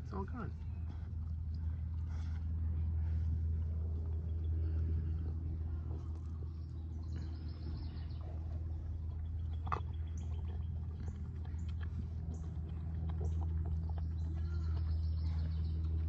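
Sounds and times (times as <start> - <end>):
birds chirping: 0.0 - 16.0
low mechanical hum: 0.0 - 16.0.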